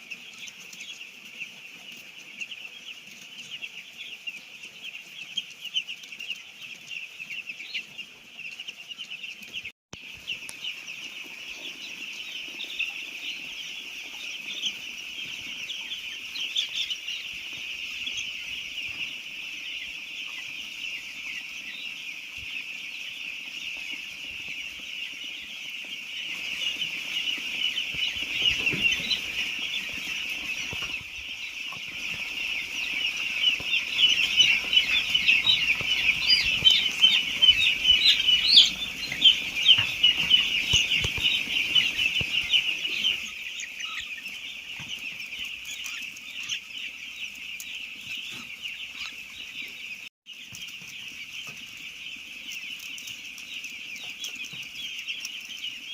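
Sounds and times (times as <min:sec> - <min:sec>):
chicks peeping: 0:00.0 - 0:55.9.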